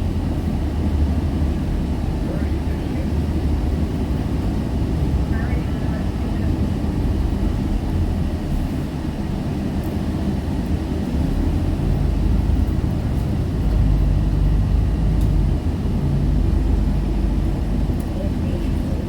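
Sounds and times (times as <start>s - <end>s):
bus diesel engine droning: 0.0s - 9.7s, 10.6s - 19.0s.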